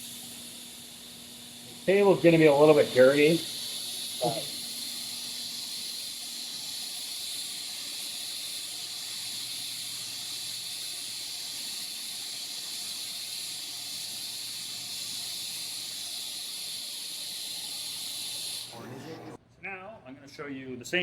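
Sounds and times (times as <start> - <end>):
welding arc hissing: 0.0 - 19.4.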